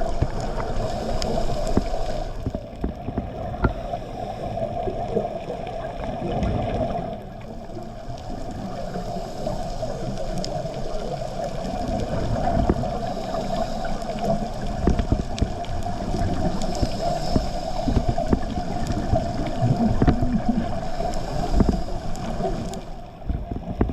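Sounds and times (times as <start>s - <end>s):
muffled underwater hum: 0.0s - 23.9s
underwater rumbling and gurgling: 0.0s - 23.9s.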